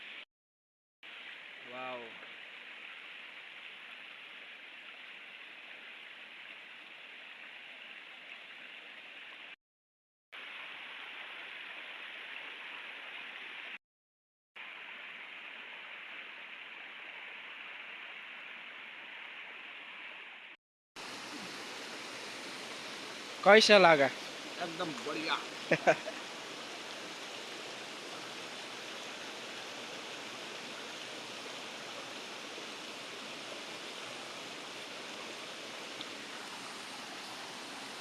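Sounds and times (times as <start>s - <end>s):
flowing water rushing: 1.0s - 9.6s, 10.4s - 13.8s, 14.6s - 38.0s.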